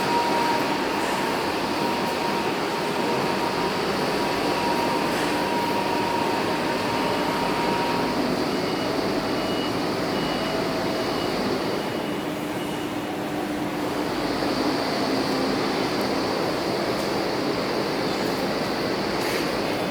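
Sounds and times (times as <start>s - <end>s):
diesel generator engine running: 0.0s - 19.9s.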